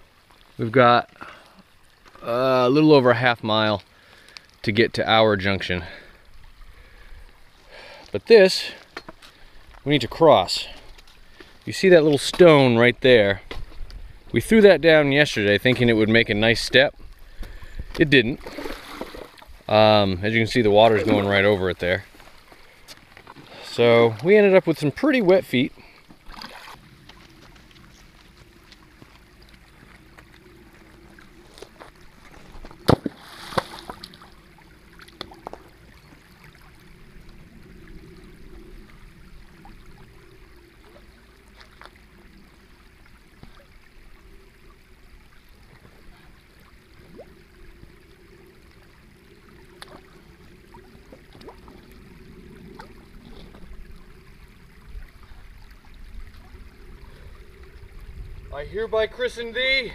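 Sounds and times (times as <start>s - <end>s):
water trickling over stones: 0.0s - 59.9s.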